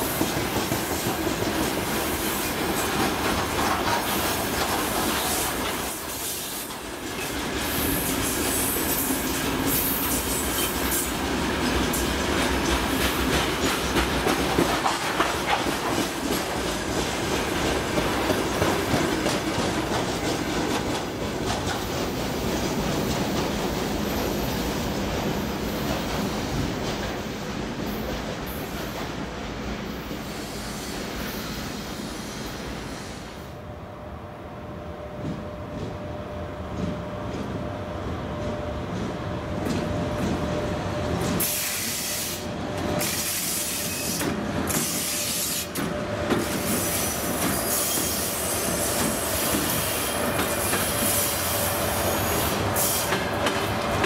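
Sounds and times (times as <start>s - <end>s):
freight train wagons rolling: 0.0s - 30.3s, 38.3s - 54.0s.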